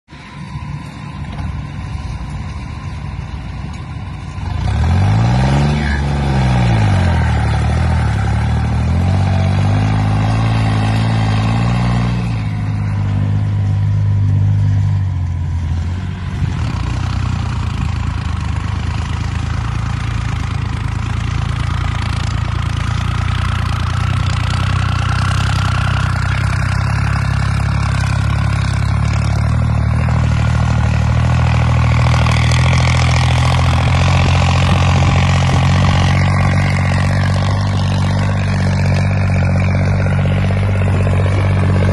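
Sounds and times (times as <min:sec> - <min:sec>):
tractor diesel engine revving: 0:00.2 - 0:41.9.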